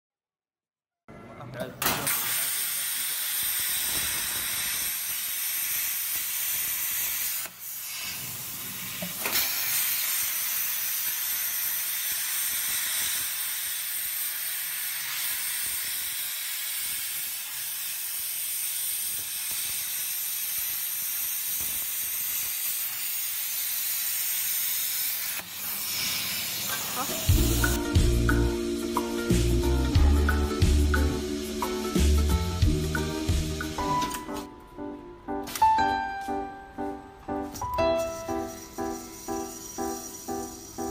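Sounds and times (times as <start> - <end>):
plasma cutter hissing: 1.8 - 34.4, 37.6 - 40.9.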